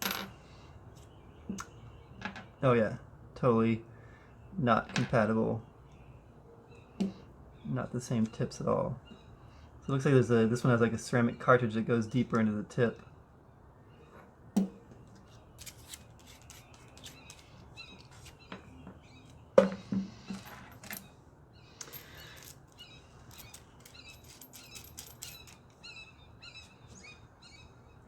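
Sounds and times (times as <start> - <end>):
birds chirping faintly: 0.0 - 28.0.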